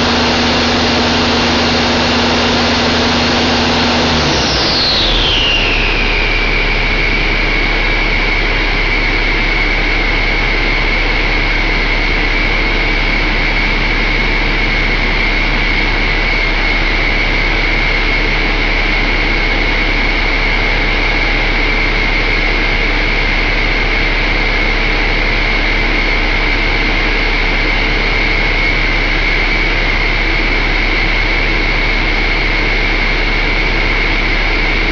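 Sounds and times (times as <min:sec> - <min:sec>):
diesel engine running: 0:00.0 - 0:34.9
high whine: 0:00.0 - 0:34.9.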